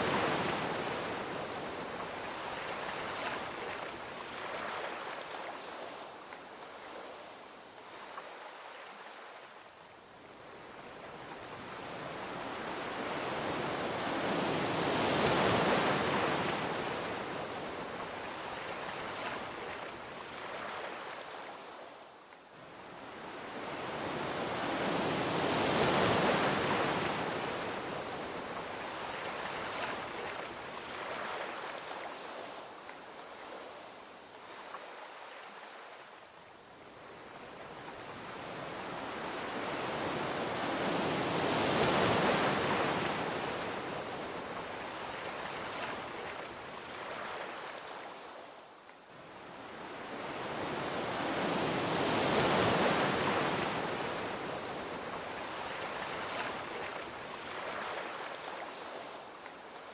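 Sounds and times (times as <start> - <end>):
ocean waves rolling onto beach: 0.0 - 59.9.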